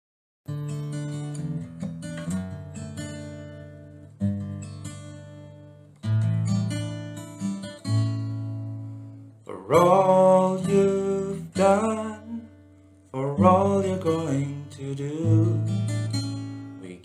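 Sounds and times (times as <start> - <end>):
acoustic guitar strumming: 0.5 - 17.0.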